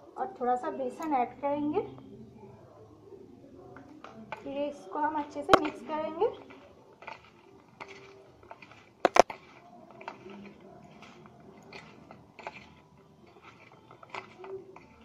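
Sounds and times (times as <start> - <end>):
rustling and squishing food: 0.0 - 15.0.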